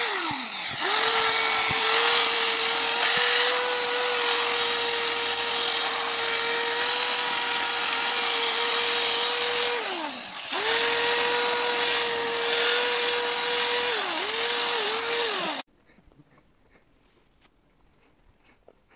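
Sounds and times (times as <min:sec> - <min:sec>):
drill motor whine: 0:00.0 - 0:15.6.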